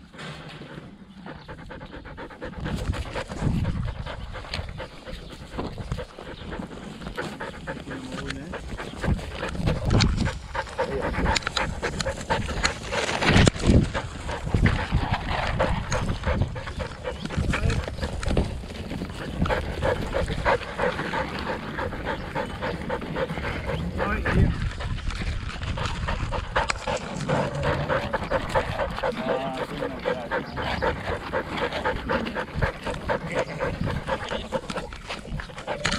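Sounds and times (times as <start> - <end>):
dog panting: 0.0 - 35.9.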